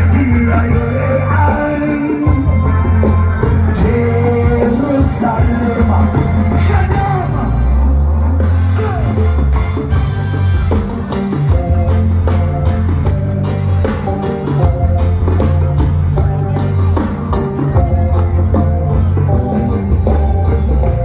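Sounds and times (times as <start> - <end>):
heavy bass line: 0.0 - 21.0.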